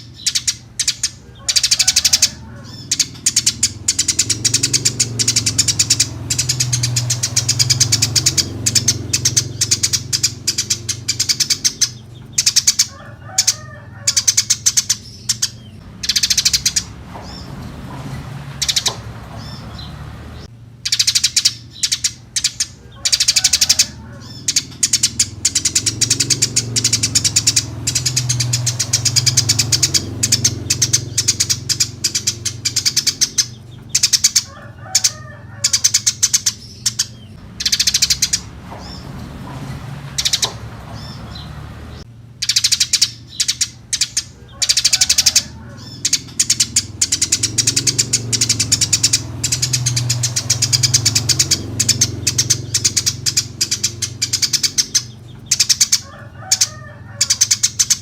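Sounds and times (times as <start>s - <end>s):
sparrow chirping: 0.0s - 58.0s.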